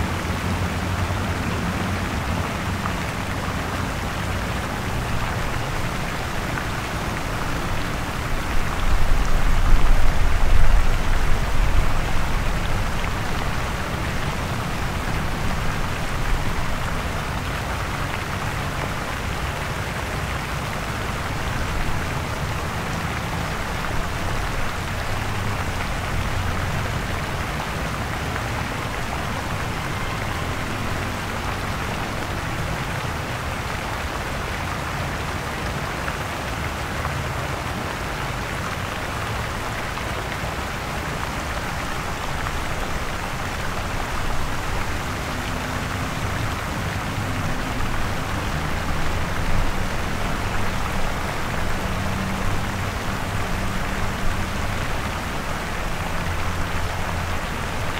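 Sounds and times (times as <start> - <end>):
city traffic rumble: 0.0 - 57.9.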